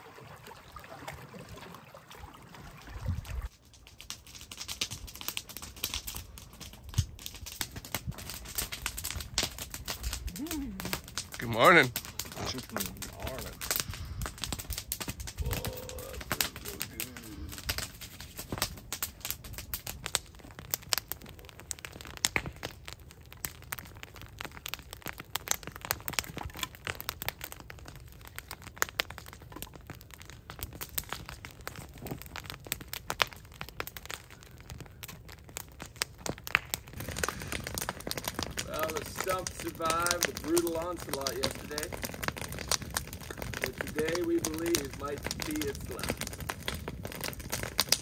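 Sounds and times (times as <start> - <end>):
wood fire crackling: 0.1 - 48.0.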